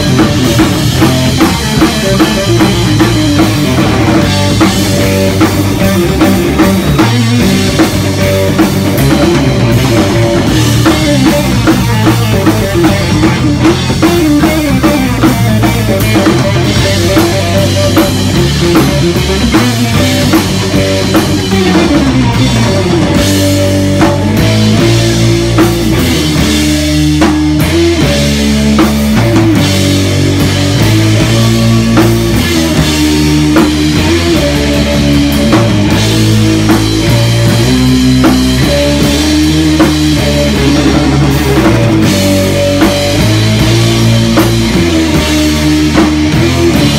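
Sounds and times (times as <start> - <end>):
heavy rock band playing live: 0.0 - 46.9
pounding drum kit: 0.0 - 46.9.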